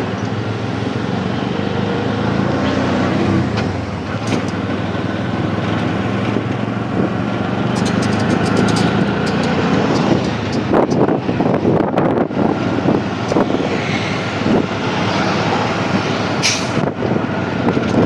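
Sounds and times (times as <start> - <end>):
passing traffic: 0.0 - 18.0
vehicle engine running: 0.0 - 18.0
wind rumbling on microphone: 0.0 - 18.0.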